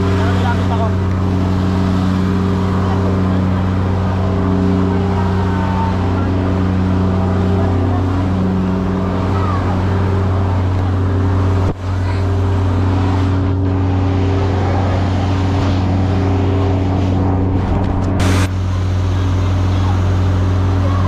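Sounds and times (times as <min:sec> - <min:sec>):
large engine droning: 0:00.0 - 0:21.0
steady hum: 0:00.0 - 0:21.0.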